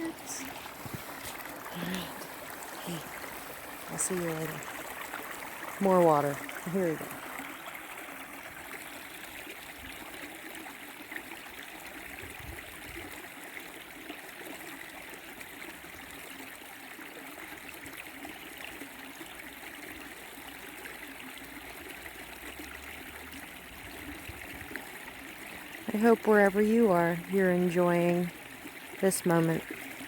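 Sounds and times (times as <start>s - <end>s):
shallow creek babbling: 0.0s - 30.0s.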